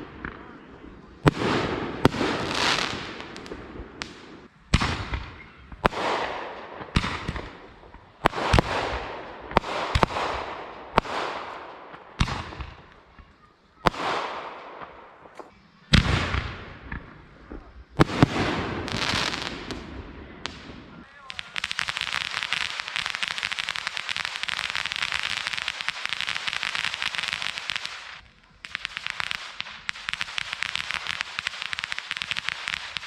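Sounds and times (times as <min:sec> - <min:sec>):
fireworks bangs: 0:00.0 - 0:33.0
fireworks crackle: 0:00.0 - 0:33.0.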